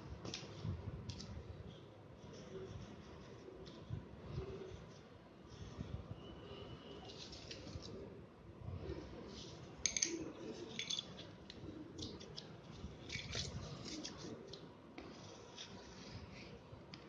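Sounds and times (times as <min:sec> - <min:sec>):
scissors and cardboard on tile floor: 0:00.2 - 0:05.8, 0:06.9 - 0:08.1, 0:09.2 - 0:17.0.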